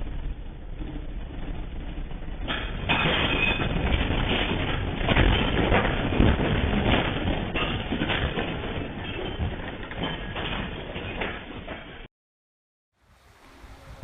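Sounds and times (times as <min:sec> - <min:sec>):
earthquake rumble: 0:00.0 - 0:12.1
objects rattling and knocking: 0:00.8 - 0:12.1.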